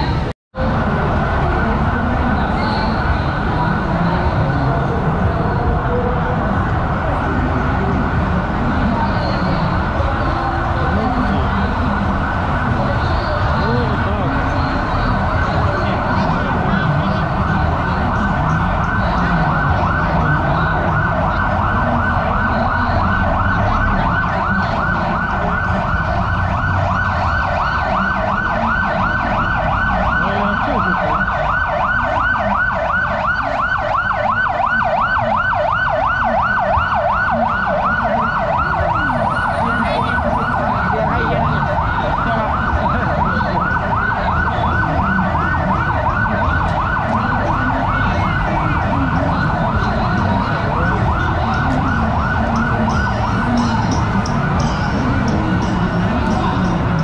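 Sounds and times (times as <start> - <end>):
emergency siren yelping: 0.0 - 57.0
low street traffic: 0.0 - 57.0.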